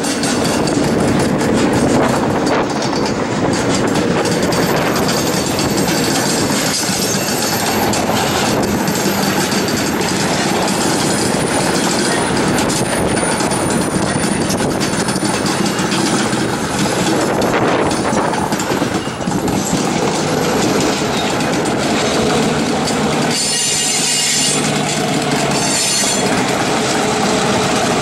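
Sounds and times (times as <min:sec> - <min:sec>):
train wheels rumbling and clattering: 0:00.0 - 0:28.0.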